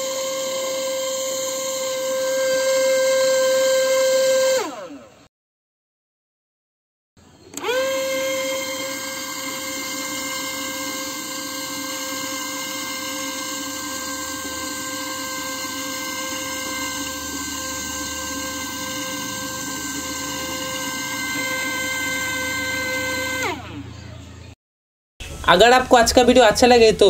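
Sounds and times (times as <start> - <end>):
small motor whining: 0.0 - 5.3, 7.4 - 24.2.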